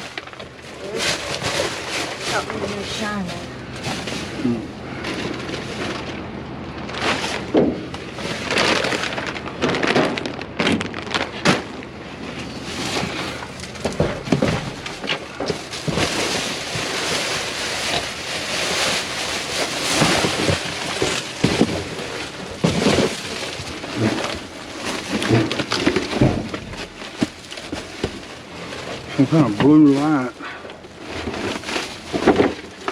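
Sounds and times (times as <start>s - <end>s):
items knocking and clattering: 0.0s - 6.2s, 6.8s - 32.9s
trash bags rustling: 0.0s - 32.9s.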